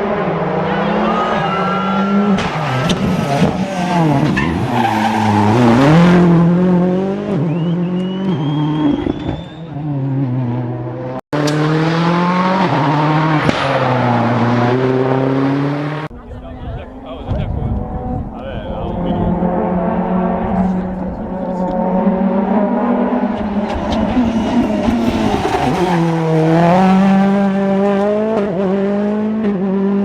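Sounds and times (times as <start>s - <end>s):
car engine revving: 0.0s - 16.1s, 16.8s - 30.0s.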